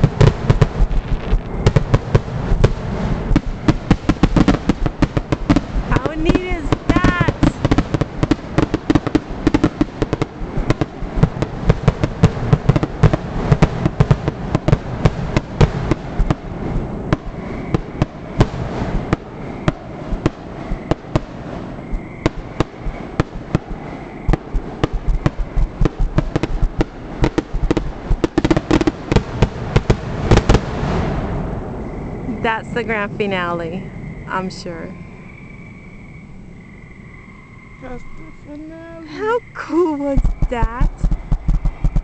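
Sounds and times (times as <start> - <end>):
fireworks bangs and crackles: 0.0 - 34.6, 37.9 - 42.0
low rumble: 0.0 - 36.7.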